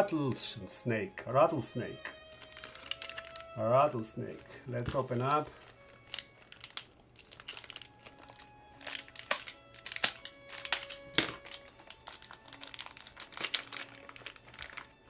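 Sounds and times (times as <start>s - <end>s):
quiet background music: 0.0s - 15.0s
plastic wrapping crinkling: 2.1s - 15.0s.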